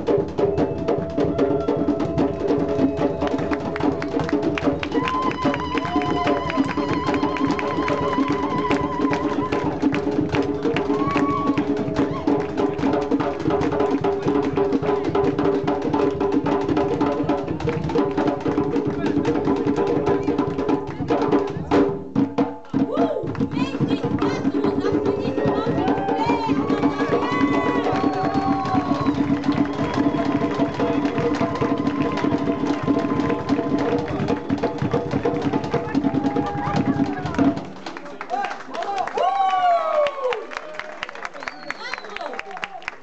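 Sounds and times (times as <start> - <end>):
hand drums steady base rhythm: 0.0 - 37.7
lead hand drum playing: 0.0 - 37.7.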